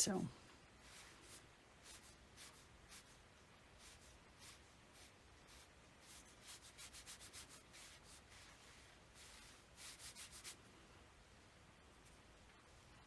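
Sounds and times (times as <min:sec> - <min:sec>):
paintbrush strokes on paper: 0:00.1 - 0:10.6.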